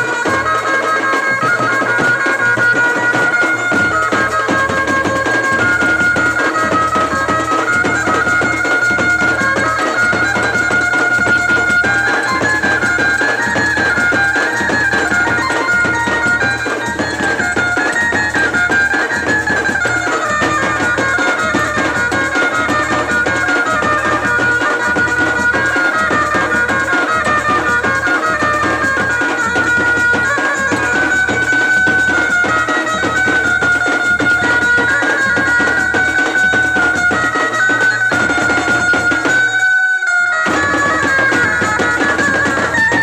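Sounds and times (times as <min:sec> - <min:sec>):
steady drum beat: 0:00.0 - 0:39.6, 0:40.4 - 0:43.0
reedy wind instrument melody: 0:00.0 - 0:43.0.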